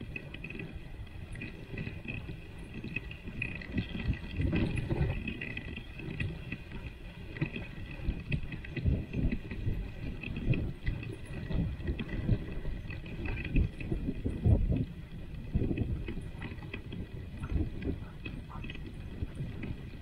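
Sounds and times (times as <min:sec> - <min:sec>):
sled runners scraping snow: 0:00.0 - 0:20.0
wind rumbling on microphone: 0:00.0 - 0:20.0.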